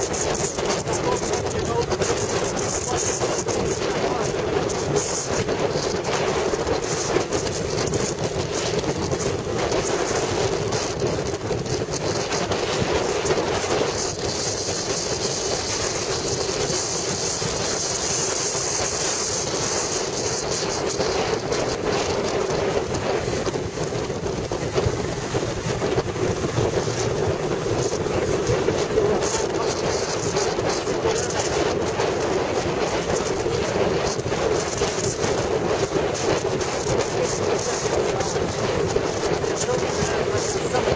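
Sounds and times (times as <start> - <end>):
motorcycle engine drone: 0.0 - 40.9
wind on microphone: 0.0 - 40.9.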